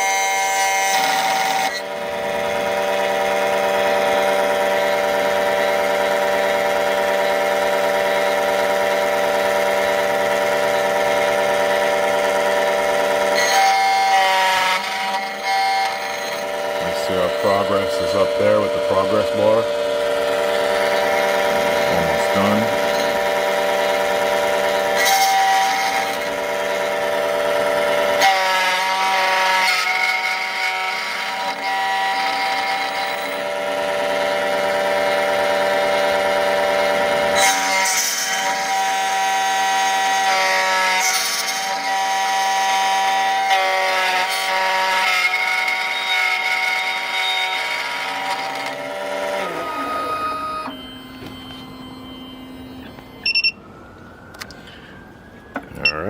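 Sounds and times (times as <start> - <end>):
key cutting machine whine: 0.0 - 56.0.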